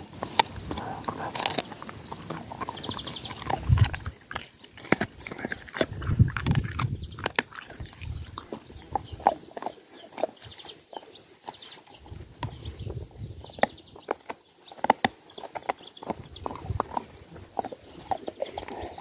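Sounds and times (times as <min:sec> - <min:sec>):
dog chewing on a bone: 0:00.0 - 0:19.0.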